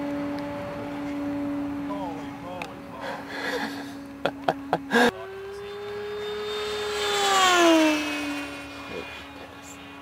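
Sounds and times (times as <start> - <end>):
model airplane propeller whine: 0.0 - 10.0.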